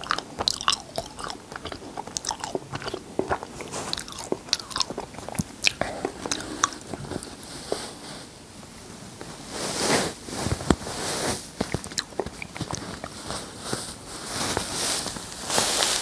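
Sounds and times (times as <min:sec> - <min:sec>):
cotton candy crackling rustle: 0:00.0 - 0:08.4, 0:09.4 - 0:16.0.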